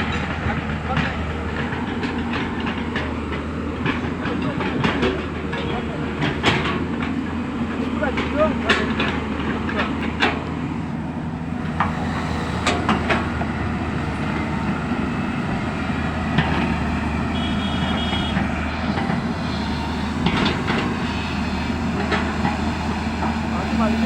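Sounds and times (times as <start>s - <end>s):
machine clanks and knocks: 0.0s - 10.6s, 11.6s - 17.1s, 20.1s - 24.0s
diesel engine running: 0.0s - 24.0s.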